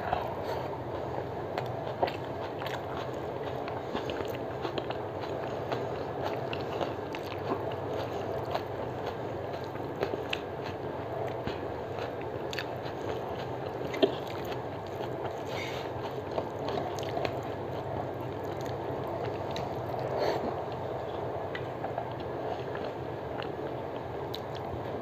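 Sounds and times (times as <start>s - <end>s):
person chewing: 1.6s - 23.5s.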